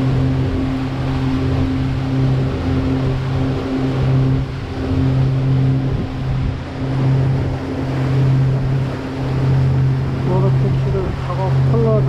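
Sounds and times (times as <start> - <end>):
boat engine humming: 0.0 - 12.0
rushing water: 0.0 - 12.0
wind: 0.0 - 12.0.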